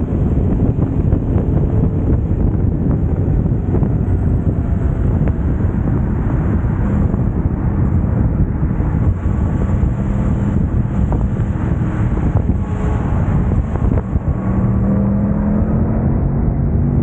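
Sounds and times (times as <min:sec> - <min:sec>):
motorcycle engine running: 0:00.0 - 0:17.0
wind noise on microphone: 0:00.0 - 0:17.0.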